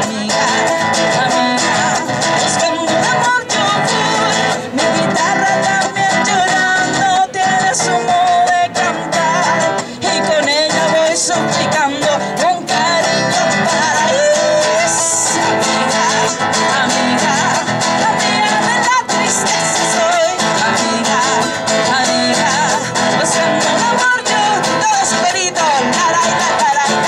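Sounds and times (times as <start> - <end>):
strummed acoustic guitar: 0.0 - 27.0
women singing: 0.0 - 27.0.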